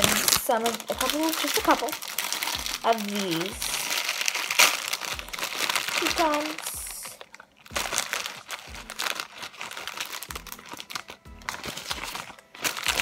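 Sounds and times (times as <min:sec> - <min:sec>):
background music: 0:00.0 - 0:13.0
plastic bag crinkling: 0:00.0 - 0:13.0.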